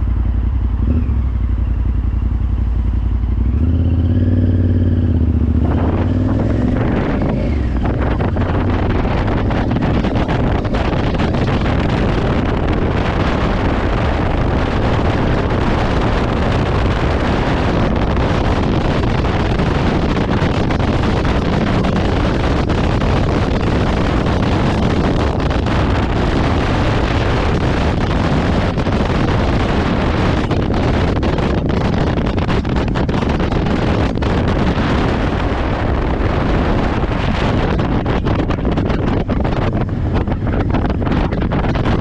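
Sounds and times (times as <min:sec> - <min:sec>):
motorcycle engine: 0:00.0 - 0:42.0
road noise: 0:00.0 - 0:42.0
wind rush on microphone: 0:00.0 - 0:42.0.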